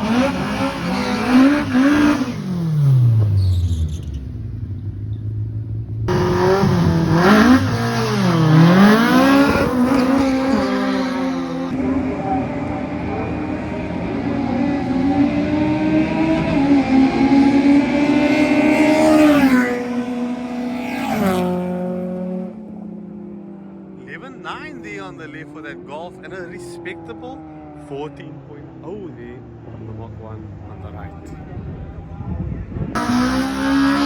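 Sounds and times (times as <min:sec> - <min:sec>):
drag racing engines revving: 0:00.0 - 0:34.0.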